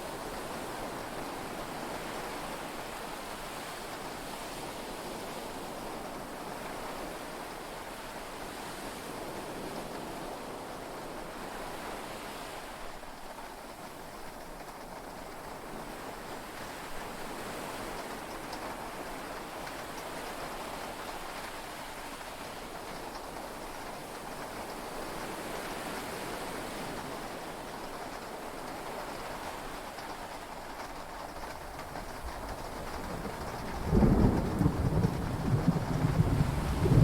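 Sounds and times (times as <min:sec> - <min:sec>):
heavy rain on a boat: 0:00.0 - 0:37.0.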